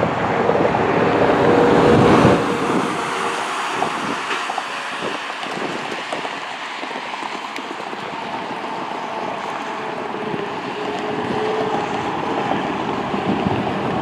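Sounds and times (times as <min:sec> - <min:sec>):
car passing: 0:00.0 - 0:14.0
jet engines rushing: 0:00.0 - 0:14.0.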